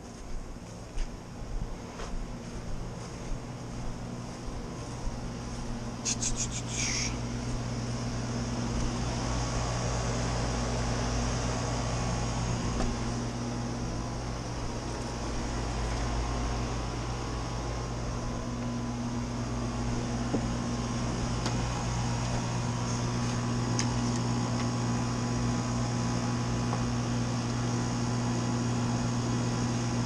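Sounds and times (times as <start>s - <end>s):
air conditioning unit humming: 0.0s - 30.0s.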